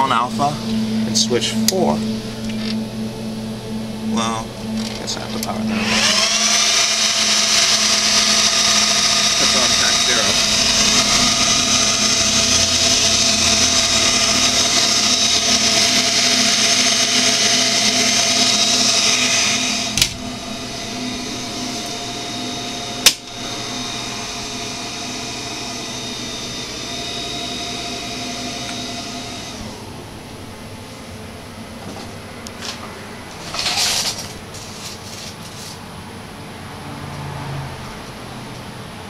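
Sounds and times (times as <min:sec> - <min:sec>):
server cooling fans whirring: 0:00.0 - 0:39.0.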